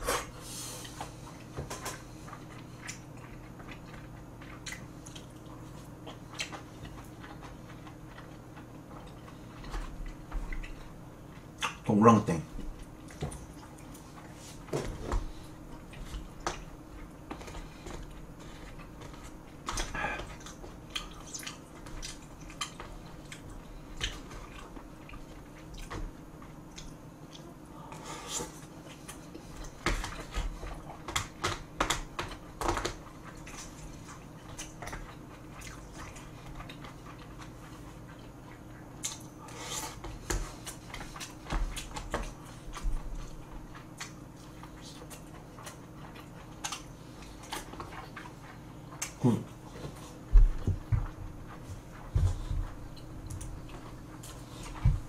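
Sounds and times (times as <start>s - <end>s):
person chewing food: 0.0s - 11.8s, 12.6s - 55.0s.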